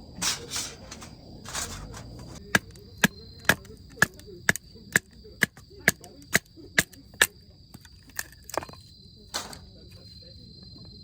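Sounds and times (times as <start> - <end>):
cricket trill: 0.0 - 11.0.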